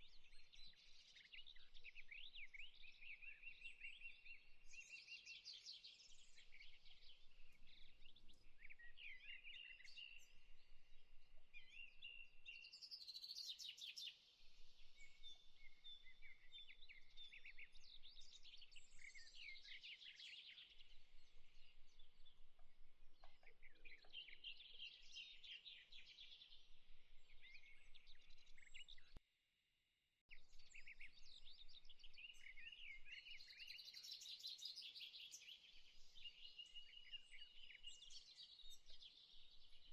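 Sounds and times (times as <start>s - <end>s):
small birds chirping and trilling: 0.0s - 29.2s, 30.3s - 39.9s.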